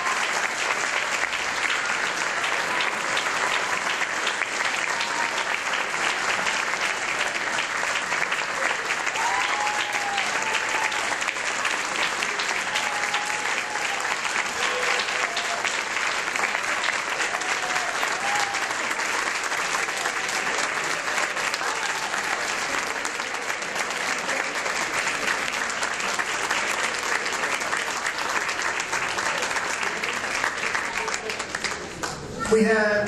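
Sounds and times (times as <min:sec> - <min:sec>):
audience applauding: 0:00.0 - 0:32.3.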